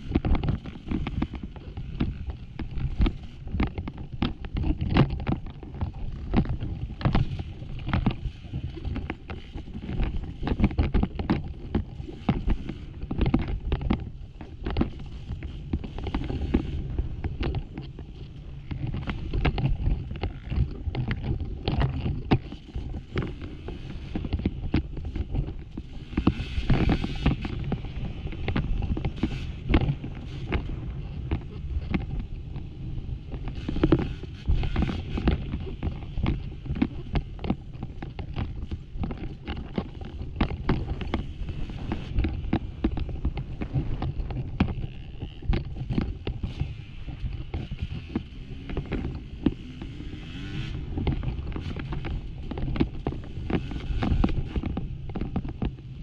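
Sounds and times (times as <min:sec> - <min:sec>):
dirt bike engine rumbling: 0:00.0 - 0:56.0.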